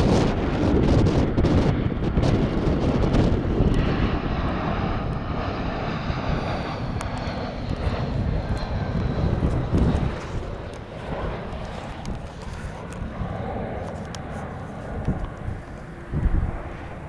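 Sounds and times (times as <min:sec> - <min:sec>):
jet engine noise overhead: 0:00.0 - 0:17.0.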